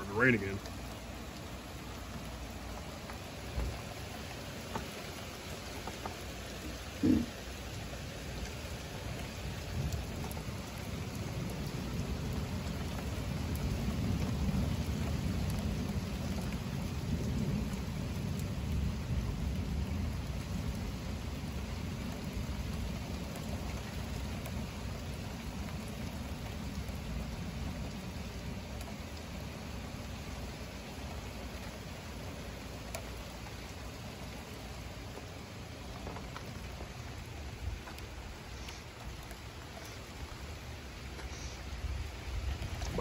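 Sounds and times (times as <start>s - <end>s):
low rumble of thunder: 0.0s - 43.0s
steady rain falling: 0.0s - 43.0s.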